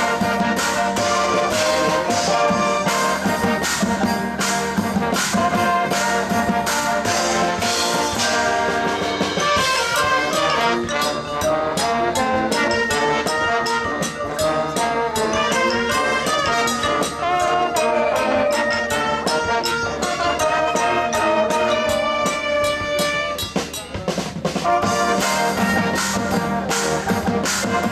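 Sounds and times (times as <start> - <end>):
drumline beat: 0.0 - 27.9
marching band brass chords: 0.0 - 27.9.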